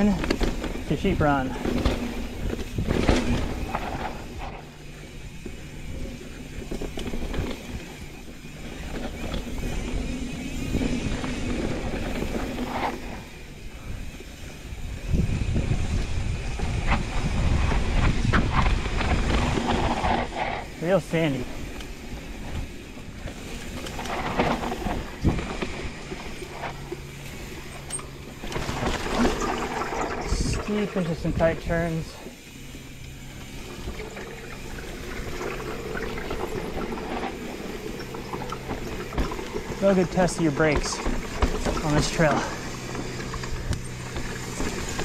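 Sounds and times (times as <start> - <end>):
bike clicks and knocks: 0.0 - 20.6, 21.5 - 30.4, 32.6 - 45.0
bike rattling: 0.0 - 45.0
bike tyres rumbling on sand: 0.0 - 45.0.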